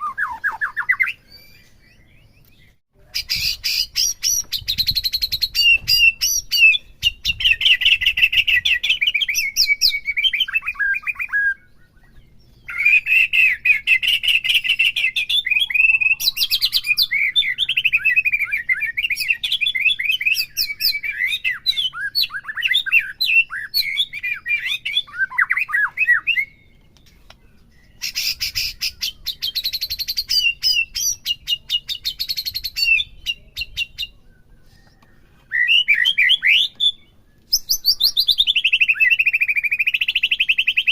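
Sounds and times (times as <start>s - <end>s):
songbird singing whistled phrases: 0.0s - 40.9s.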